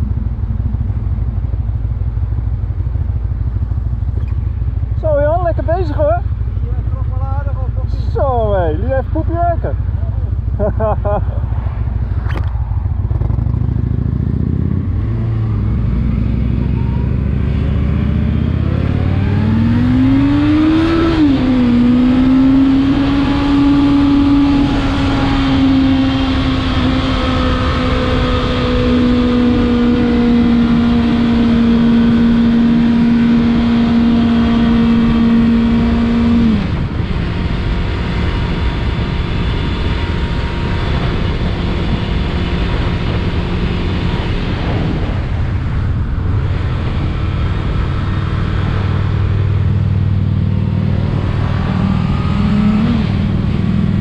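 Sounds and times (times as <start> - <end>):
heavy wind rumble: 0.0 - 54.0
motorcycle engine revving: 0.0 - 54.0.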